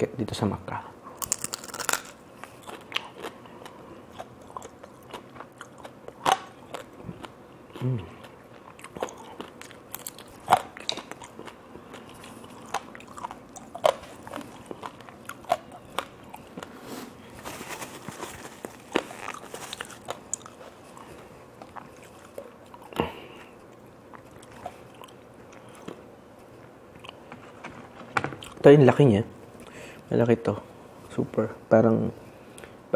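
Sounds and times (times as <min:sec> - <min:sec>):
crunching and chewing vegetables: 0:01.1 - 0:28.7.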